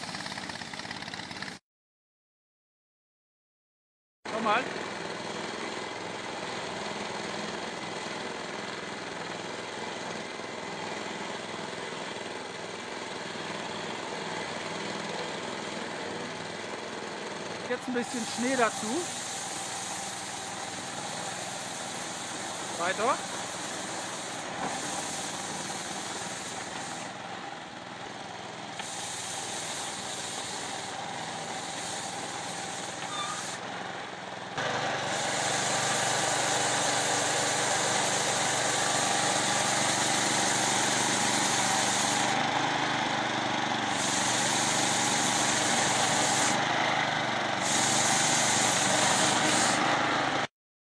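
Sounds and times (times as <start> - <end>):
snow sweeper engine running: 0.0 - 1.6, 4.3 - 50.5.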